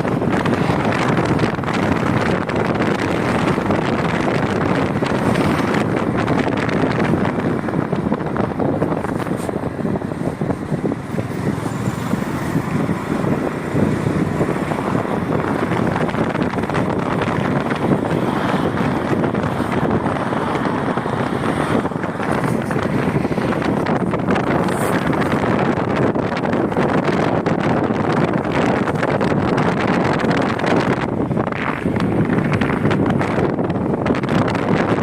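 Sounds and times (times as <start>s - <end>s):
road noise: 0.0s - 35.0s
wind rushing over microphone: 0.0s - 35.0s.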